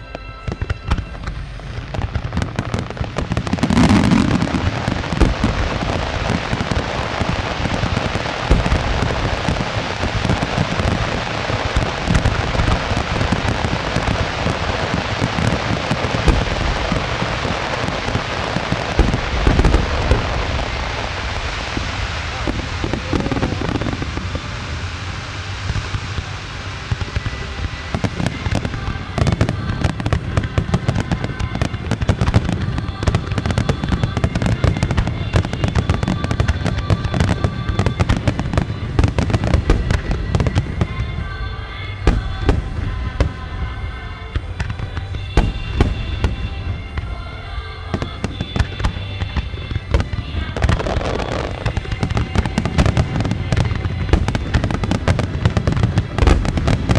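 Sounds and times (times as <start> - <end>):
fireworks bursting and crackling: 0.0 - 56.9
music playing: 0.0 - 56.9.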